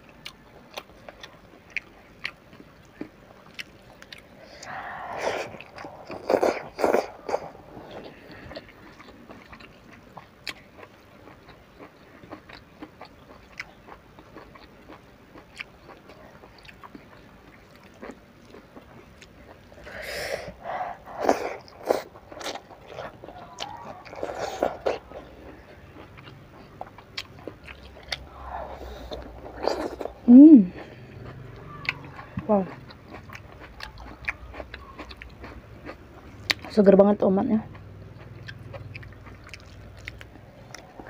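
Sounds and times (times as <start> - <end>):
chewing with wet mouth clicks: 0.1 - 4.8, 5.4 - 19.9, 20.6 - 36.8, 37.7 - 41.0.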